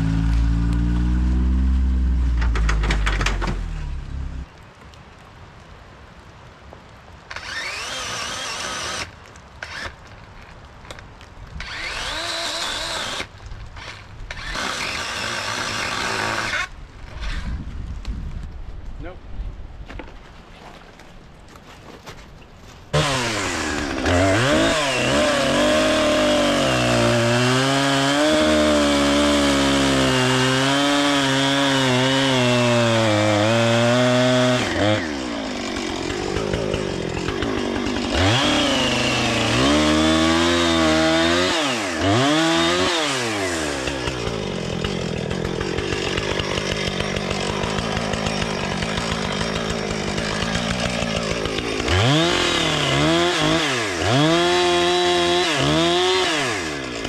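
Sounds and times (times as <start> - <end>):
chainsaw cutting wood: 0.0 - 4.5, 7.3 - 10.2, 10.9 - 17.6, 22.9 - 57.0.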